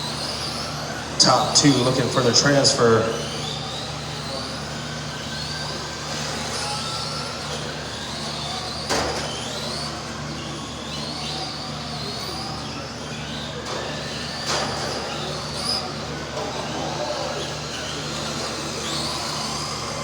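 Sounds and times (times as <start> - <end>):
electric motors whining: 0.0 - 20.0.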